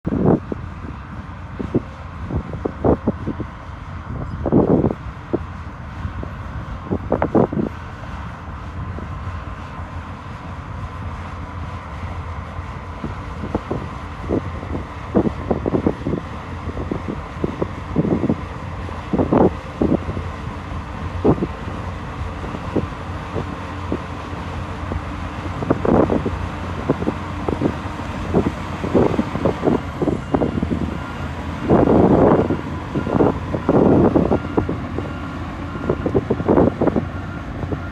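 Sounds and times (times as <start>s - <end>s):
bulldozer engine running: 0.0s - 37.9s
wind buffeting microphone: 0.1s - 37.9s.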